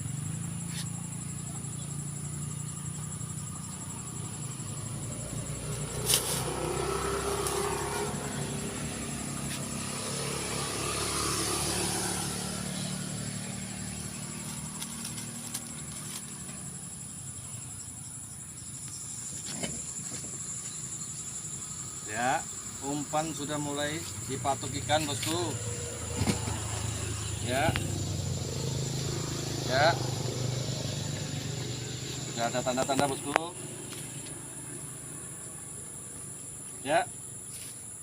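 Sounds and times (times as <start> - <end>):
motor vehicle passing: 0.0 - 17.8, 19.1 - 37.7
insects trilling: 0.0 - 38.0.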